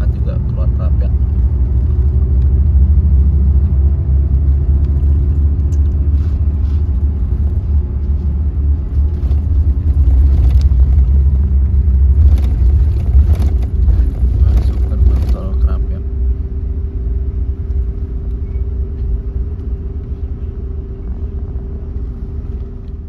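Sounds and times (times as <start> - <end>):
bus engine drone: 0.0 - 23.0
road noise: 0.0 - 23.0.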